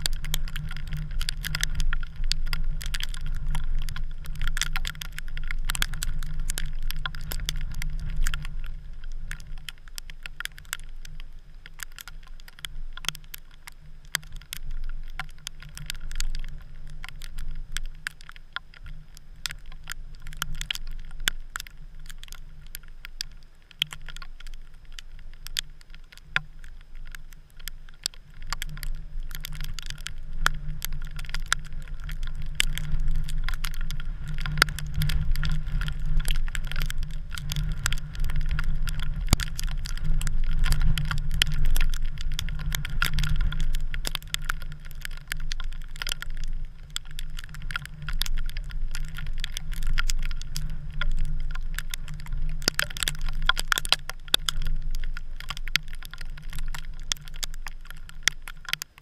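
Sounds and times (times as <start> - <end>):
low wind rumble: 0.0 - 58.8
snow pattering: 0.0 - 59.0.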